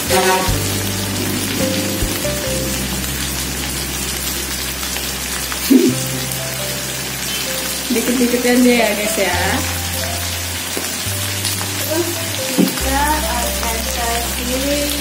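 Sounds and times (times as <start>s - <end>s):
background music: 0.0s - 15.0s
food sizzling in a wok: 0.0s - 15.0s.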